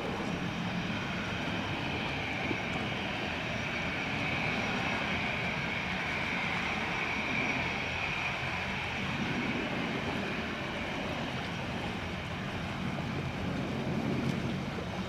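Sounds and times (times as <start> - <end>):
jet engines high whine: 0.0 - 15.0
jet engines low rumble: 0.0 - 15.0.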